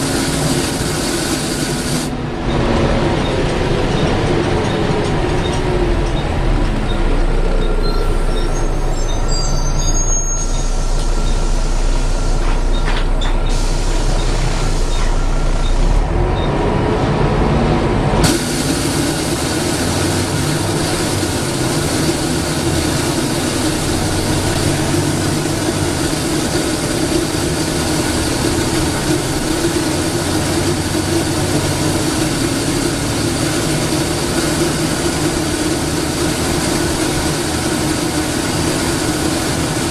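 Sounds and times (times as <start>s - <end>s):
loud steady rushing noise: 0.0s - 6.1s, 13.4s - 39.9s
bus diesel engine running: 0.0s - 39.9s.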